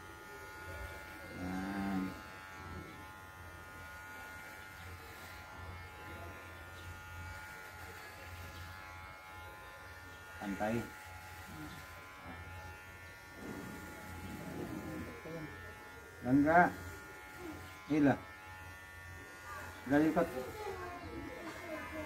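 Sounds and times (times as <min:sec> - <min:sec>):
electric hair clipper buzzing: 0:00.0 - 0:22.0.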